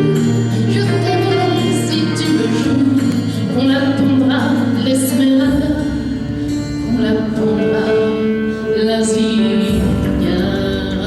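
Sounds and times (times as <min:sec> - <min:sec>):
backing track: 0:00.0 - 0:11.0
woman singing long notes: 0:00.0 - 0:11.0.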